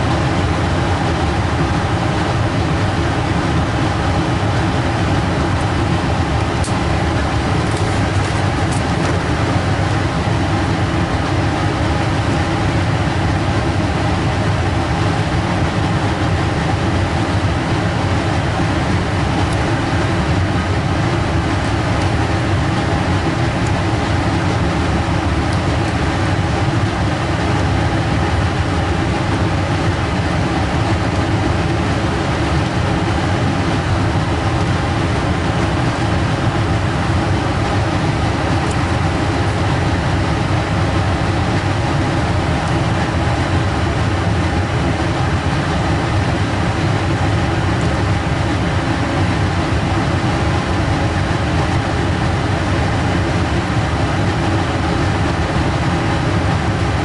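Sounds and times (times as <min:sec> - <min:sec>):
blower fan running: 0:00.0 - 0:57.0.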